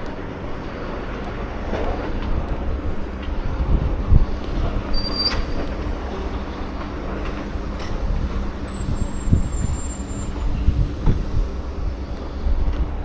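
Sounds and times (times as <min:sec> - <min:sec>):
heavy engine running: 0:00.0 - 0:13.0.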